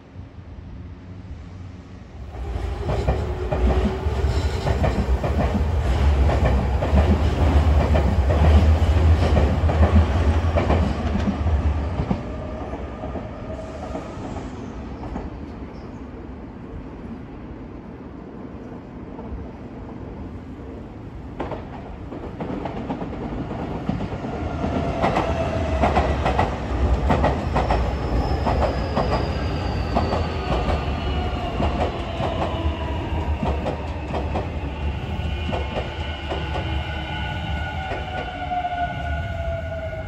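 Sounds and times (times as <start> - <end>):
train rumble: 0.8 - 16.0, 18.5 - 40.0.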